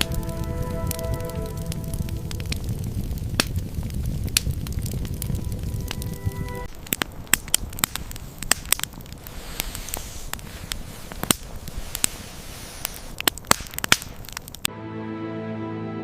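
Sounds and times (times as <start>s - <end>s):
campfire crackling and popping: 0.0s - 14.7s.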